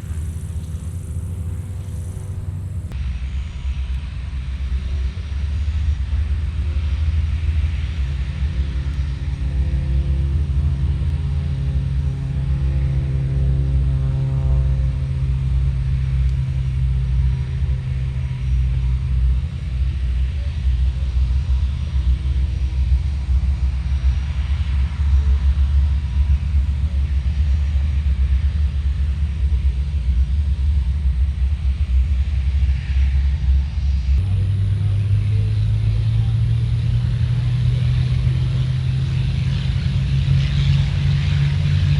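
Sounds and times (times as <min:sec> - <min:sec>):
aircraft engines rumbling: 0:00.0 - 0:41.9
planes passing with rushing noise: 0:00.0 - 0:41.9.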